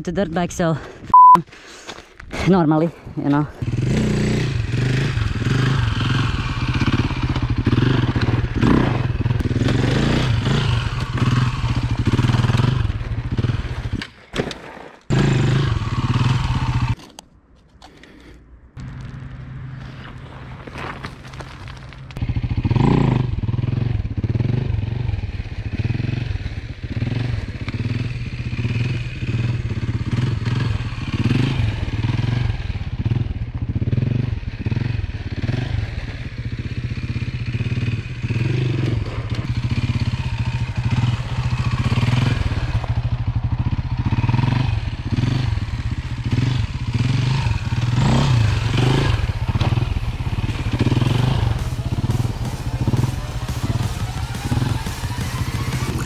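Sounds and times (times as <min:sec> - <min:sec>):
dirt bike engine revving: 0:03.6 - 0:14.0, 0:15.1 - 0:17.0, 0:22.2 - 0:56.0.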